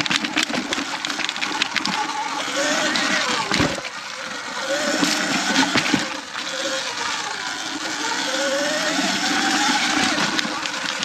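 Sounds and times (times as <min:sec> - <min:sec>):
electric motor whine: 0:00.3 - 0:11.0.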